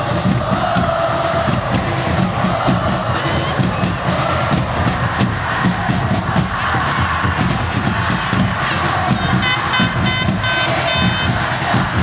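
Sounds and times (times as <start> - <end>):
large football crowd noise: 0.0 - 12.0
music with steady drum beat: 0.0 - 12.0.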